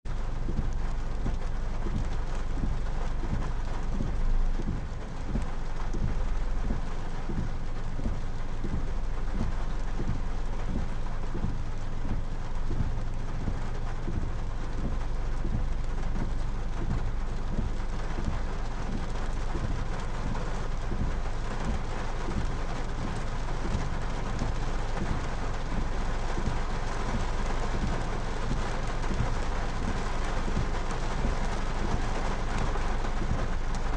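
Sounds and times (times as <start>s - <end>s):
low rumble: 0.1s - 33.9s
rain pouring: 0.1s - 33.9s.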